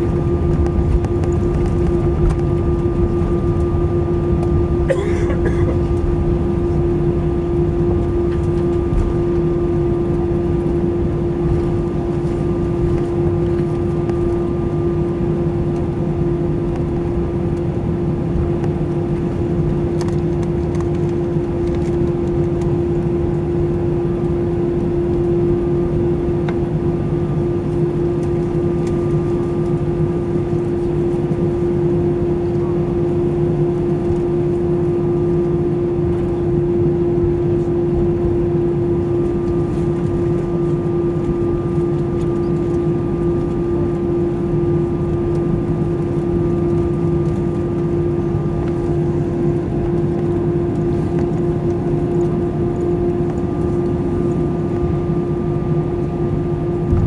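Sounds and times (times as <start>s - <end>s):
cabin air noise: 0.0s - 57.0s
jet engines idling hum: 0.0s - 57.0s.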